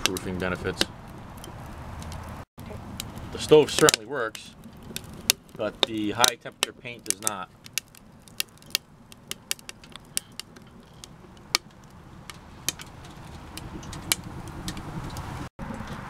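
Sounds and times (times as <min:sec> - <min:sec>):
sharp pops: 0:00.0 - 0:15.3
wood fire crackling: 0:00.0 - 0:16.0.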